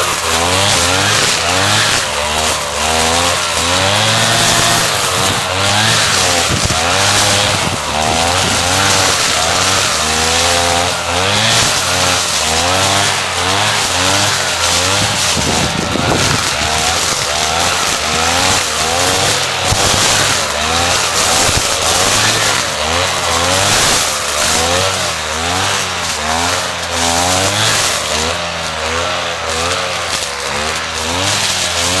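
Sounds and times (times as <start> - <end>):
brush cutter engine revving: 0.0 - 32.0.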